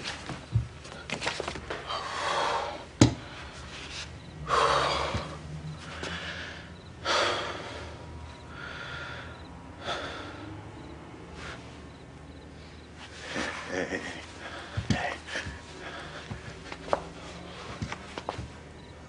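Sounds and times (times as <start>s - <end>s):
man breathing hard: 1.8s - 11.9s, 12.5s - 17.9s.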